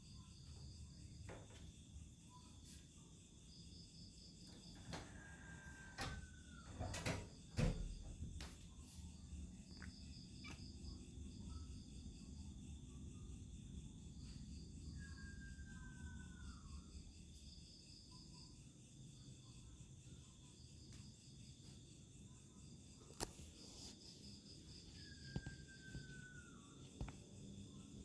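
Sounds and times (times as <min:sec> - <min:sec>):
crickets chirping: 0:00.0 - 0:28.0
low background hum: 0:00.0 - 0:28.0.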